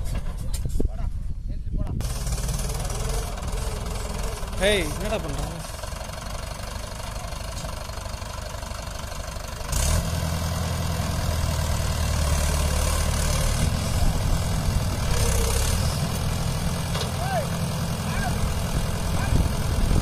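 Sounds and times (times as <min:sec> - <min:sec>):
tractor diesel engine running: 0:02.0 - 0:20.0.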